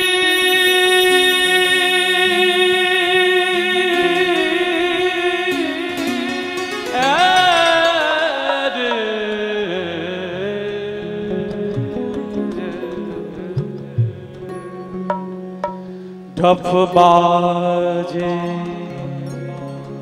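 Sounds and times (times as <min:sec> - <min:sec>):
man singing wordless line: 0:00.0 - 0:20.0
held instrumental notes: 0:03.4 - 0:20.0.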